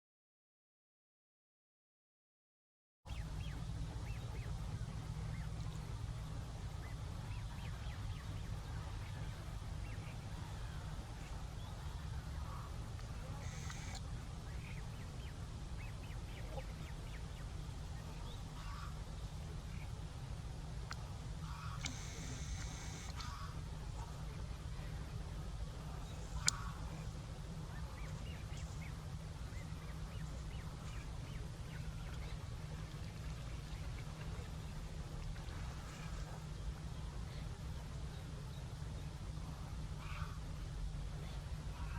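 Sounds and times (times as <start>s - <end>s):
birds calling: 3.1s - 24.9s, 25.8s - 40.6s
steady low rumble: 3.1s - 41.9s.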